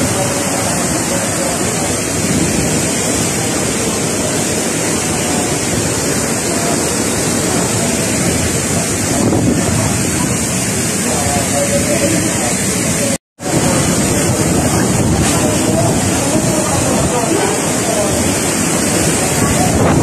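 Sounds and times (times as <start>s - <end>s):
wind buffeting microphone: 0.0s - 11.1s, 13.4s - 20.0s
rushing floodwater: 0.0s - 20.0s
strong wind: 0.0s - 20.0s.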